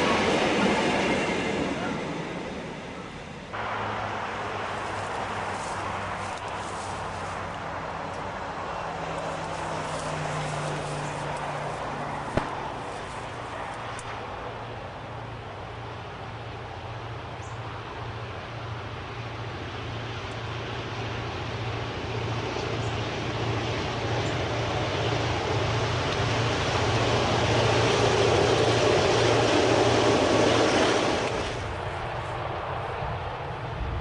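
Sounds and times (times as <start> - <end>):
diesel locomotive engine drone: 0.0 - 34.0.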